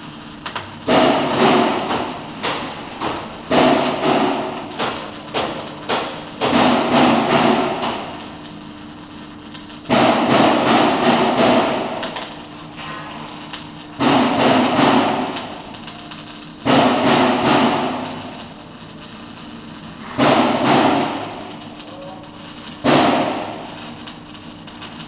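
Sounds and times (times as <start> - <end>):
arc welding crackling: 0.0 - 25.0
extraction fan hum: 0.0 - 25.0.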